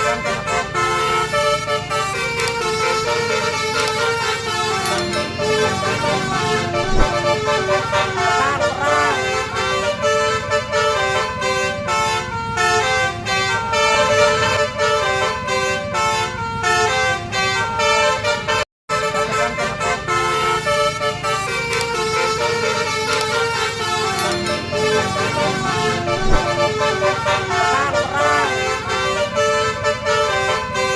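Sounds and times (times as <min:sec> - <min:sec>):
low engine and street rumble: 0:00.0 - 0:30.9
multi-tone bus horns melody: 0:00.0 - 0:30.9.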